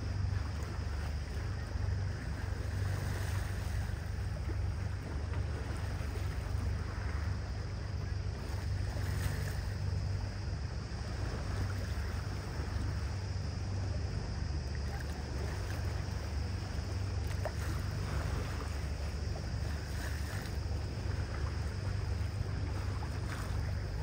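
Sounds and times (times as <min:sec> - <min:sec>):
boat engine drone: 0:00.0 - 0:24.0
water rushing along hull: 0:00.0 - 0:24.0
wind: 0:00.0 - 0:24.0.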